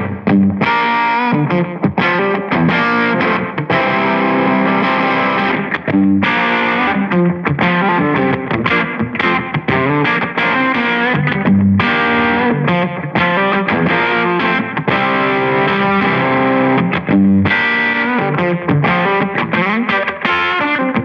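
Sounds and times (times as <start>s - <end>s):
overdriven electric guitar: 0.0s - 21.0s.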